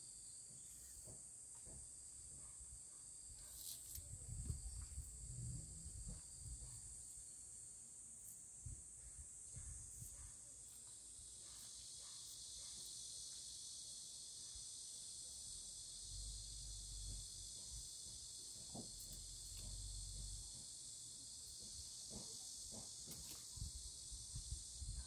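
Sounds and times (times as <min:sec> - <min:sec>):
summer insects chorus: 0:00.0 - 0:25.0.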